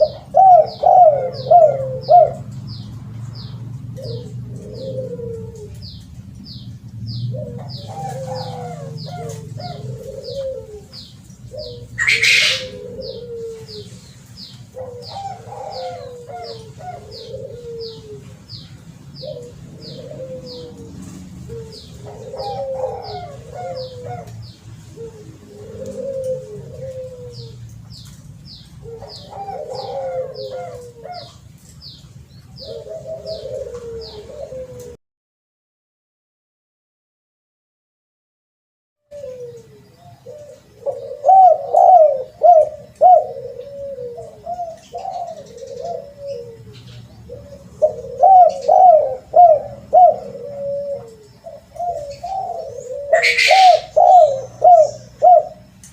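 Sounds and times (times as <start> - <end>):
dove cooing: 0.0 - 35.0, 39.1 - 55.8.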